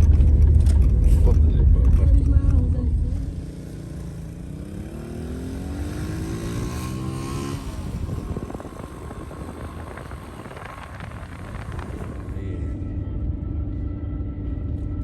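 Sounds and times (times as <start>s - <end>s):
car engine revving: 0.0s - 12.6s
road noise with rattles: 0.0s - 15.0s.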